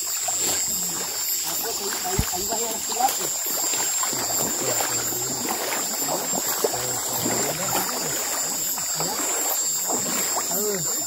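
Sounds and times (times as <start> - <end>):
high-pitched insect chorus: 0.0 - 11.0
water sloshing and trickling: 0.0 - 11.0.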